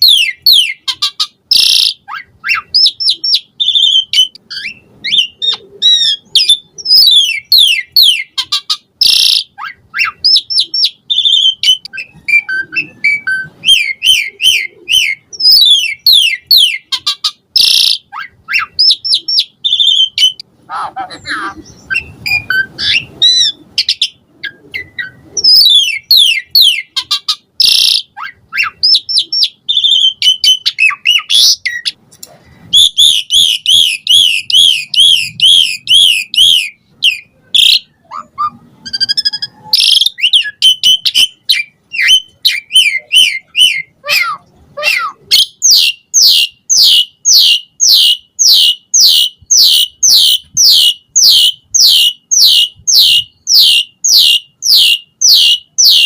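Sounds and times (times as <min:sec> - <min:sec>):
starling singing whistles and chatter: 0:00.0 - 0:20.4, 0:21.6 - 0:32.0, 0:32.7 - 0:56.0.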